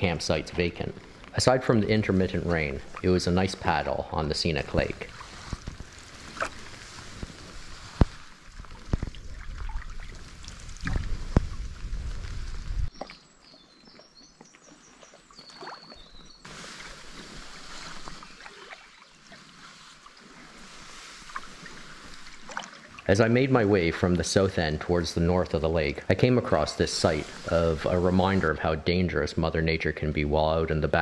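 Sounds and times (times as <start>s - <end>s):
canoe paddle strokes: 0.0s - 28.9s
moving water: 0.0s - 31.0s.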